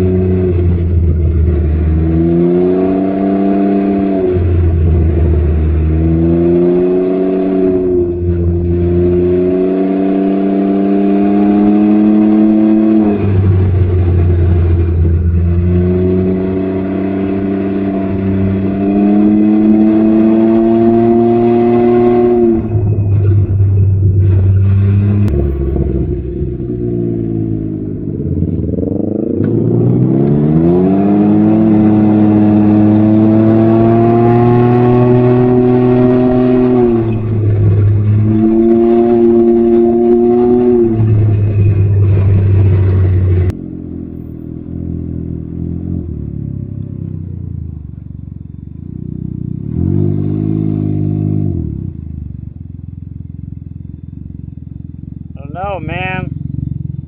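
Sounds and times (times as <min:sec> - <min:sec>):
motorcycle engine exhaust note: 0:00.0 - 0:57.0.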